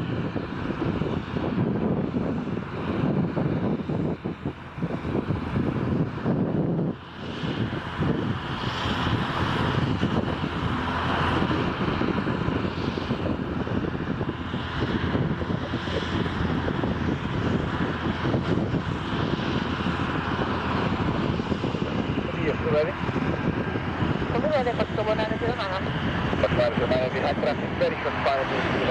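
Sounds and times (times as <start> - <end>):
airliner engines rumbling: 0.0 - 28.9.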